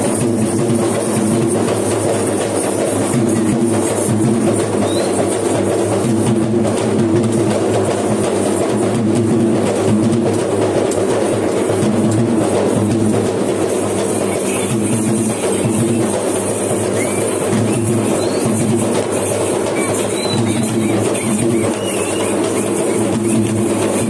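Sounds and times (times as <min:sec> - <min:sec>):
fast hand drumming: 0:00.0 - 0:24.0.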